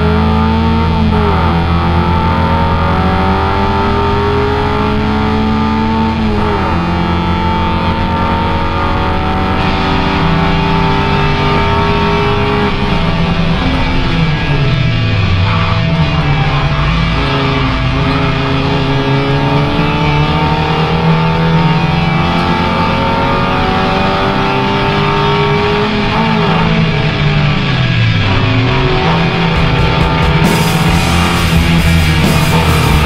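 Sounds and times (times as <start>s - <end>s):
race car engine at high revs: 0.0s - 33.0s
rock guitar music: 0.0s - 33.0s.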